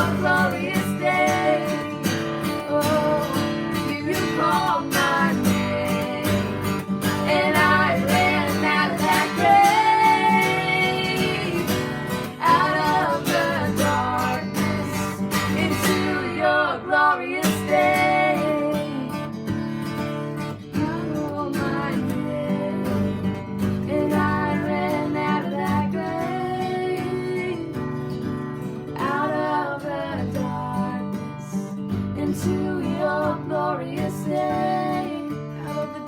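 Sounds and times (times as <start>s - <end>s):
person singing: 0.0s - 19.3s, 20.8s - 27.8s, 32.2s - 36.0s
strummed acoustic guitar: 0.0s - 36.0s.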